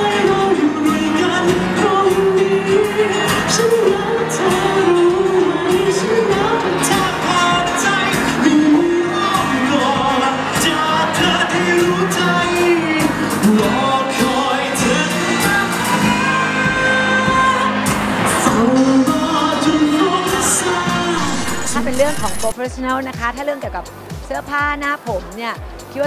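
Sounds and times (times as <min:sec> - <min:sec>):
man singing: 0:00.0 - 0:22.5
bass guitar: 0:00.0 - 0:24.7
drums: 0:00.0 - 0:26.0
guitar: 0:00.0 - 0:26.0.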